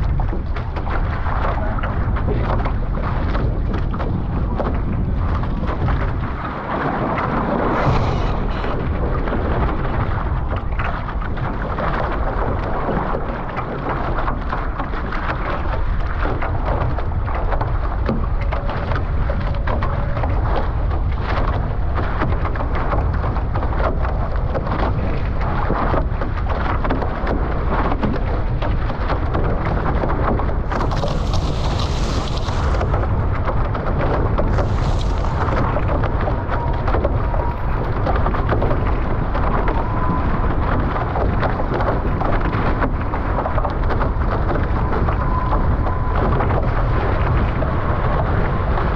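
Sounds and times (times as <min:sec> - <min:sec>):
rushing water: 0:00.0 - 0:48.9
wind rumbling on microphone: 0:00.0 - 0:48.9.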